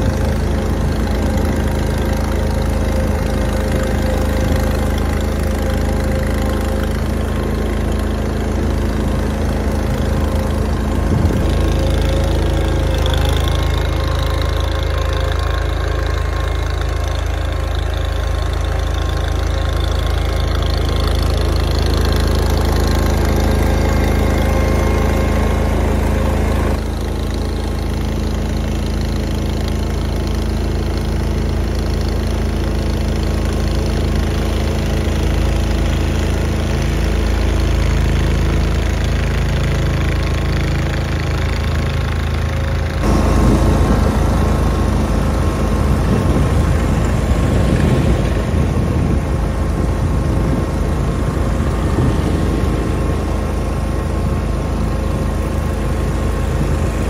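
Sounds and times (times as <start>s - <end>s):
garden tractor engines running: 0.0s - 57.0s.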